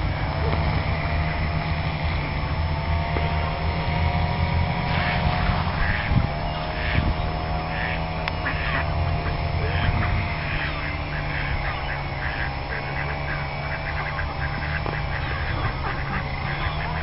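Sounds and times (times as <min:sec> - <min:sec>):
distant engine drone: 0:00.0 - 0:17.0
waterfowl calling: 0:03.2 - 0:17.0.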